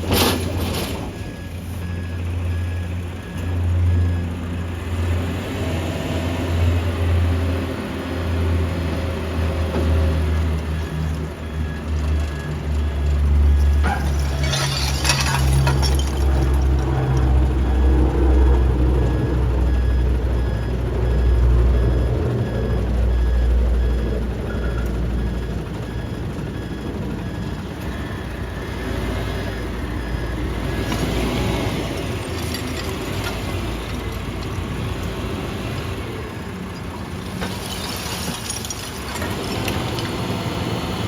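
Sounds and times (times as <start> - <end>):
truck diesel engine rumbling: 0.0 - 41.0.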